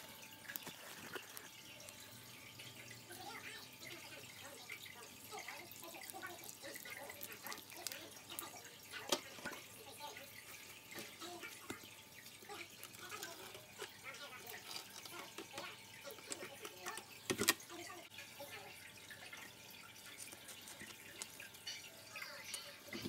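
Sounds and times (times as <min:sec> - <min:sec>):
water trickling onto soil: 0:00.0 - 0:17.2, 0:17.8 - 0:22.2.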